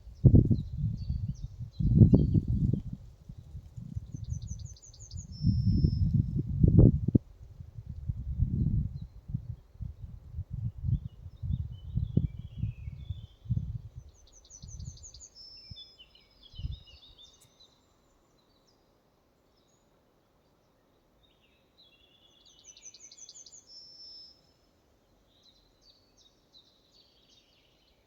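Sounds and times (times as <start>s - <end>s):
songbird singing trills: 0.0s - 7.2s, 8.4s - 18.8s, 21.2s - 28.0s.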